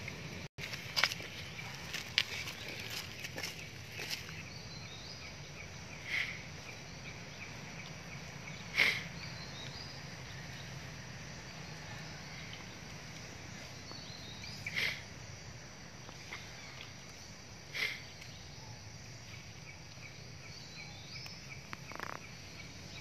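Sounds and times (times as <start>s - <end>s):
insect hum: 0.0s - 23.0s.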